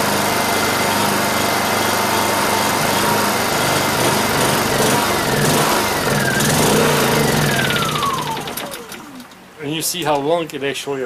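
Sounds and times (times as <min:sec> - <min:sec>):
generator engine running: 0:00.0 - 0:09.6.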